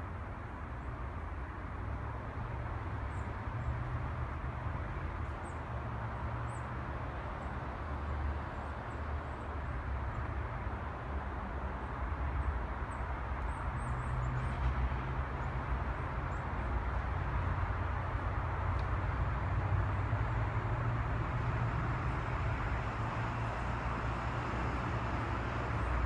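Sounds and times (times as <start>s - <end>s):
city traffic hum: 0.0s - 26.0s.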